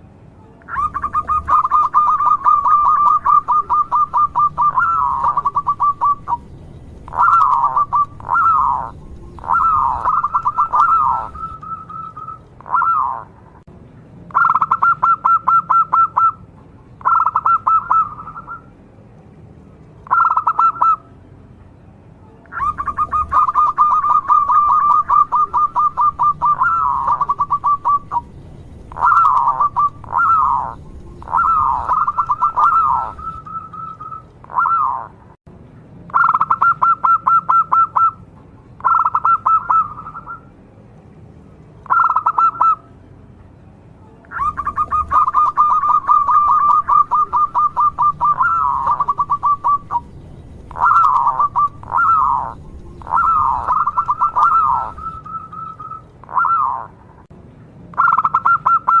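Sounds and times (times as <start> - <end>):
dove cooing: 0.7 - 13.4, 14.4 - 16.4, 17.0 - 18.7, 20.0 - 21.0, 22.5 - 35.1, 36.2 - 38.2, 38.8 - 40.4, 41.9 - 42.8, 44.3 - 57.0.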